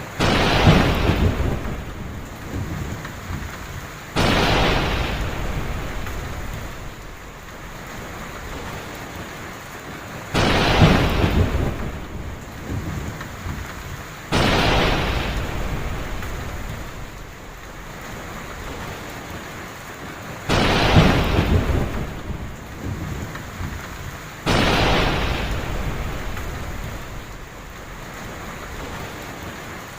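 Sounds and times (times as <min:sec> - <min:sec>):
heavy rain falling: 0:00.0 - 0:29.9
thunder rumbling: 0:00.1 - 0:09.3, 0:10.3 - 0:19.3, 0:20.5 - 0:29.8.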